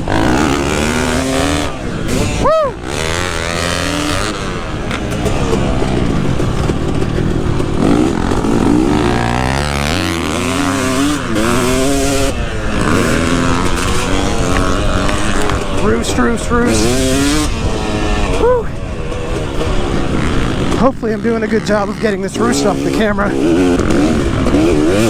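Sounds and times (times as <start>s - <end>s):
motocross engine revving: 0.0s - 25.0s.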